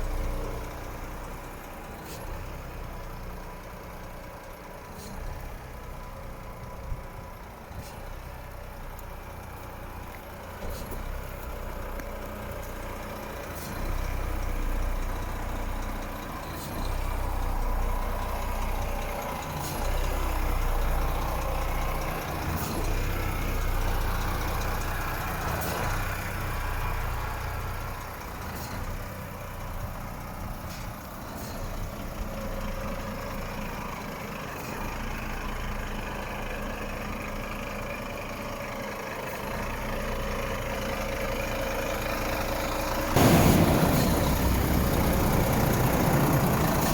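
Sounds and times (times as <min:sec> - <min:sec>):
truck diesel engine idling and revving: 0:00.0 - 0:46.9.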